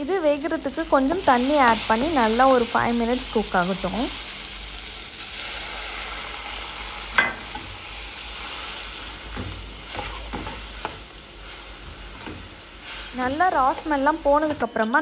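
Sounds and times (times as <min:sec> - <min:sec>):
sauce sizzling in a pan: 0:00.0 - 0:15.0.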